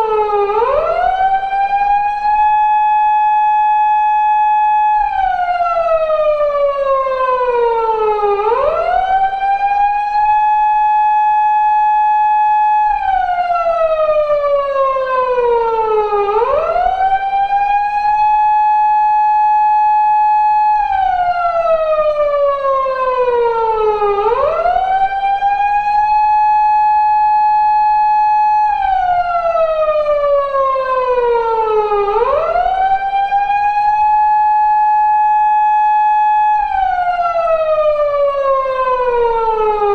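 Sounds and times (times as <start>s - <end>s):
police car siren: 0.0s - 39.9s.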